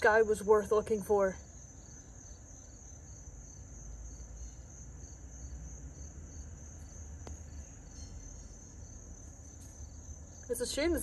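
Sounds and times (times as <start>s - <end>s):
insect chirp: 0.0s - 11.0s
insects trilling: 0.0s - 11.0s.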